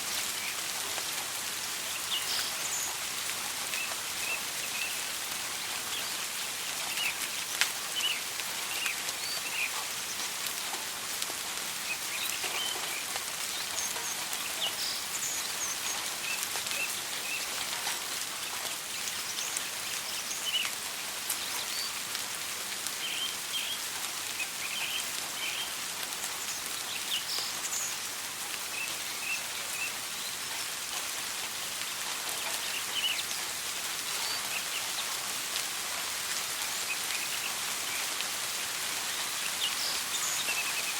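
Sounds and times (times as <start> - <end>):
steady rain falling: 0.0 - 40.9
birds chirping: 1.7 - 10.6, 11.8 - 22.0, 23.0 - 36.0, 39.1 - 40.9.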